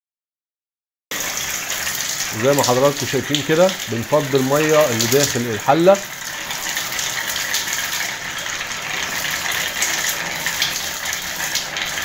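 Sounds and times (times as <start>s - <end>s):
water pouring onto tiles: 1.1s - 12.0s.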